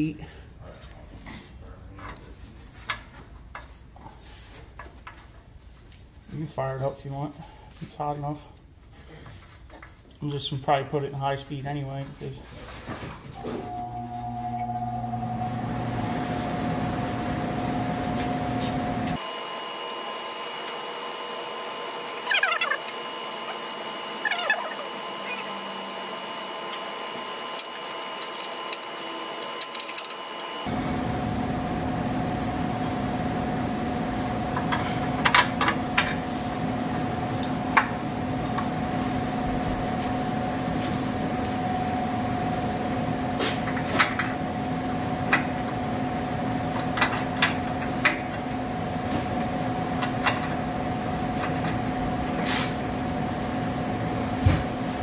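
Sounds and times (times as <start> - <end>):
heater fan humming: 3.4 - 55.0.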